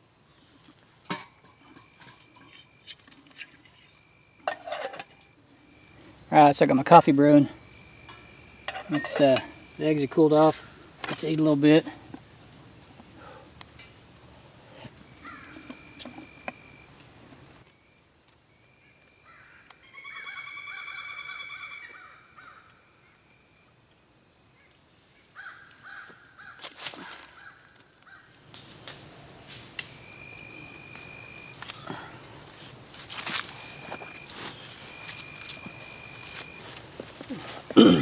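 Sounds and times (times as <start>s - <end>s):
crickets trilling: 0.0s - 38.0s.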